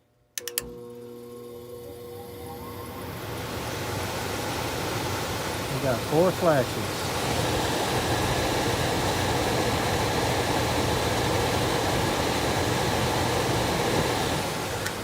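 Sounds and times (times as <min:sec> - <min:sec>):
furnace blower humming: 0:00.4 - 0:15.0.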